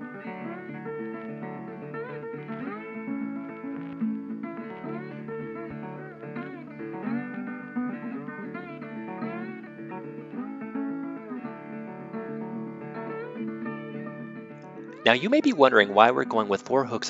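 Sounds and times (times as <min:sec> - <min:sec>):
sliding guitar tune: 0:00.0 - 0:17.0.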